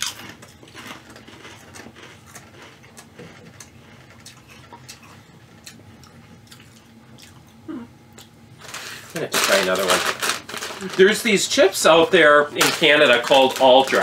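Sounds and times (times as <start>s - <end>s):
potato chips being chewed: 0.0s - 14.0s.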